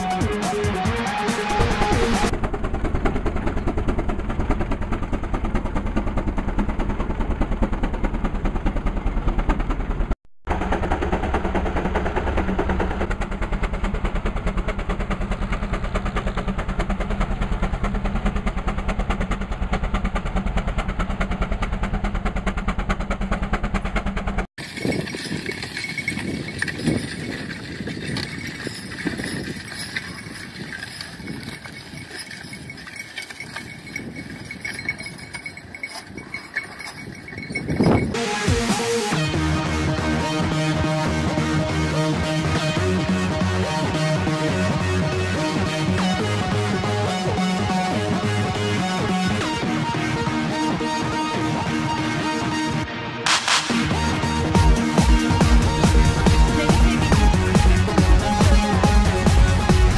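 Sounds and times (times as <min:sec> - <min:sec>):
steam traction engine chuffing: 0:00.0 - 0:51.9.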